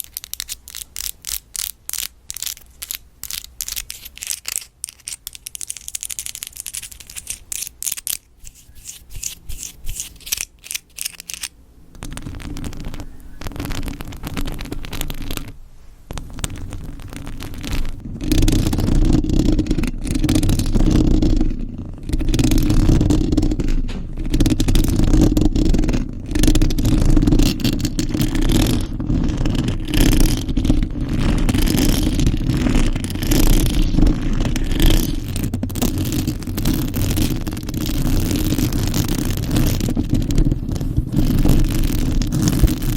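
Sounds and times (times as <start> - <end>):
fingernails scratching a surface: 0.0 - 42.9.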